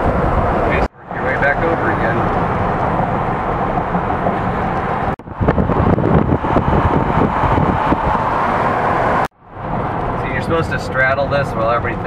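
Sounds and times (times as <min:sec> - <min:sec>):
wind buffeting microphone: 0:00.0 - 0:10.7
car engine: 0:00.0 - 0:12.0
road noise: 0:00.0 - 0:12.0.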